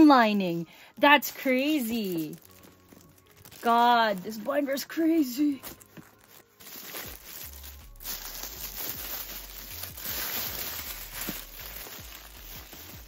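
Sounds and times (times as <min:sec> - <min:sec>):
plastic bag crinkling: 0:01.2 - 0:13.0.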